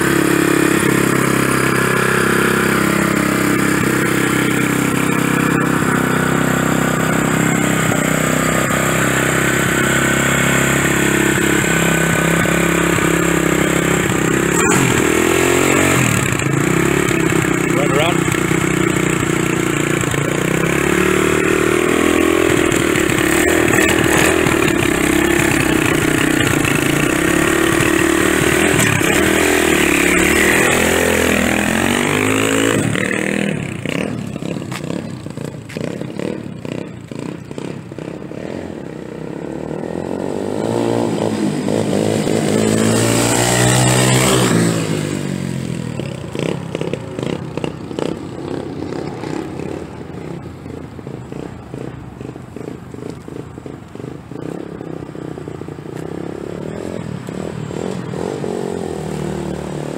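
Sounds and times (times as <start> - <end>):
dirt bike engine revving: 0.0 - 50.4, 54.3 - 59.9.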